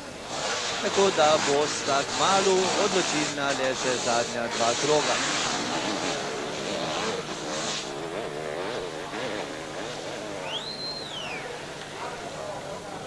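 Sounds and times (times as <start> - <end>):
high-pitched engine whine: 0.0 - 13.0
racing engines revving: 0.0 - 13.0.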